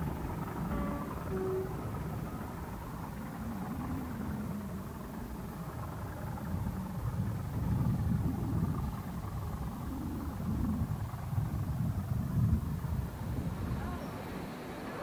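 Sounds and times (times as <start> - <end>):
distant diesel train rumble: 0.0 - 15.0.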